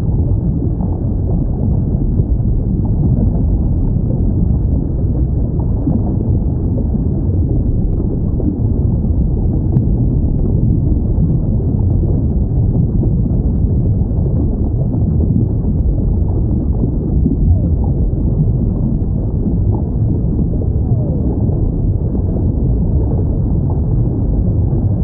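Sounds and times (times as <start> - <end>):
low underwater ocean rumble: 0.0 - 25.0.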